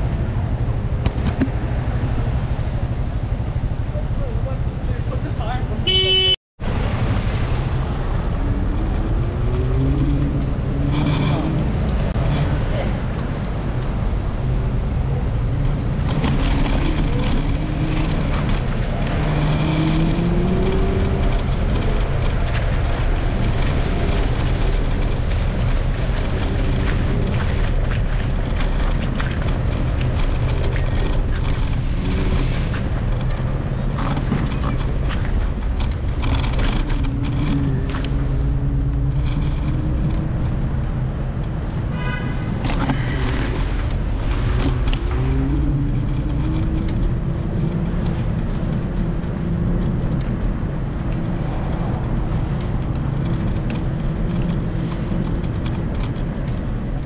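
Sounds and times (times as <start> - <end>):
road traffic: 0.0 - 57.0
wind rumble on microphone: 0.0 - 57.0.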